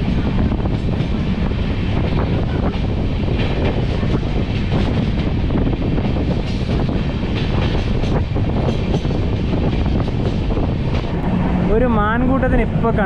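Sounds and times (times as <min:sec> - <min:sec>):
wind on microphone: 0:00.0 - 0:11.8
train wheels rumbling on rails: 0:00.0 - 0:13.0.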